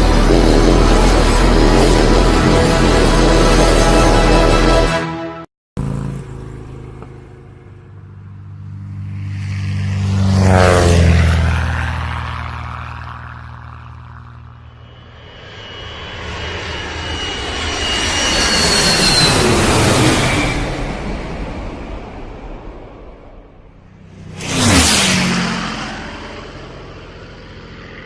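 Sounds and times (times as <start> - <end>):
propeller airplane flying past: 0.0 - 5.0, 5.8 - 28.0
loud noisy sound: 0.0 - 6.3, 11.6 - 28.0.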